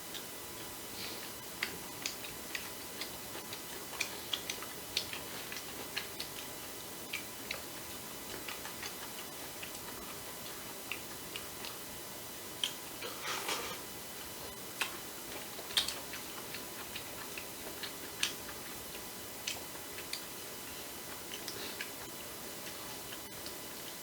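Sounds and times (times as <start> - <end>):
clicks and taps of eating: 1.6 - 11.8, 12.6 - 12.8, 14.4 - 24.0.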